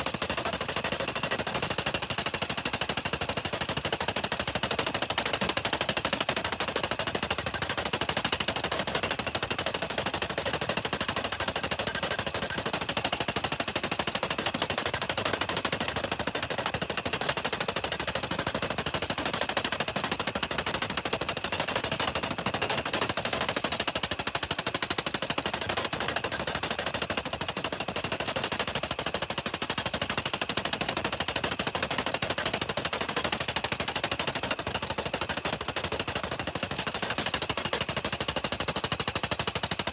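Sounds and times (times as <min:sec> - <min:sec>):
jackhammer pounding log: 0:00.0 - 0:39.9.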